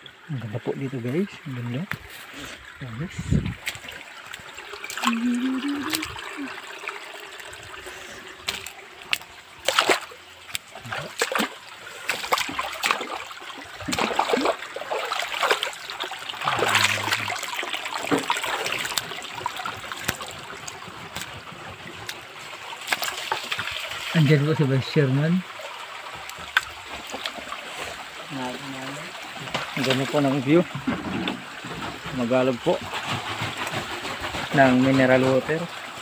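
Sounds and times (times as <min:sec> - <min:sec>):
splashes of wading: 0:00.0 - 0:36.0
stream trickling over rocks: 0:00.0 - 0:36.0.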